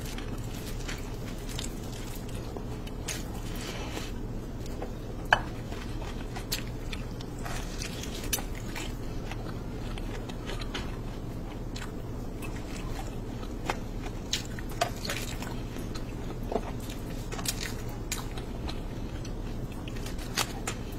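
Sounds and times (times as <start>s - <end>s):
chewing and mouth smacks: 0.0s - 20.9s
steady low hum: 0.0s - 20.9s
wet squishes of food: 0.0s - 20.9s.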